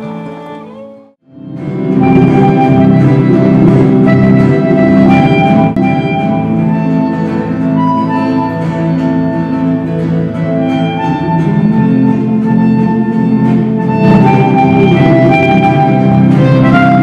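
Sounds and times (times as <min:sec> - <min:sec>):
acoustic guitar: 0:00.0 - 0:17.0
held melody notes: 0:00.0 - 0:17.0.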